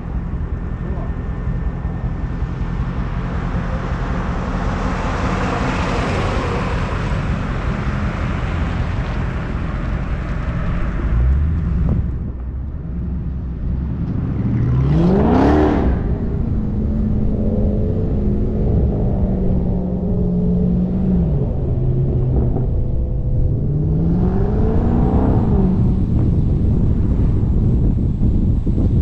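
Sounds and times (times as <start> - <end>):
car engine idling and revving: 0.0 - 29.0
steady rushing noise: 0.0 - 29.0.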